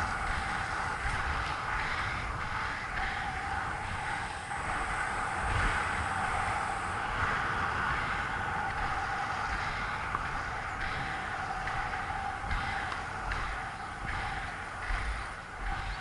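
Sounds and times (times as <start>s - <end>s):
skate wheels rolling on asphalt: 0.0s - 16.0s
wind buffeting microphone: 0.0s - 16.0s.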